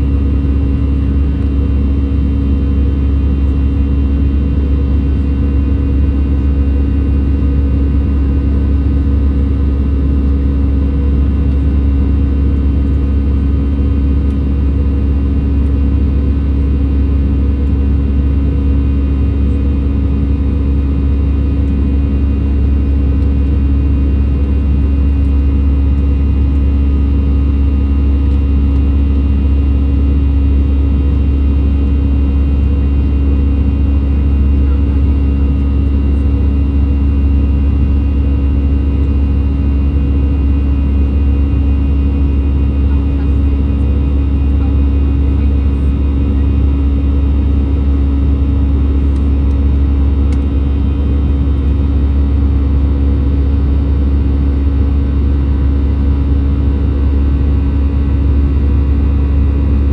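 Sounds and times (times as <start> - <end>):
aircraft cabin rumble: 0.0 - 59.9.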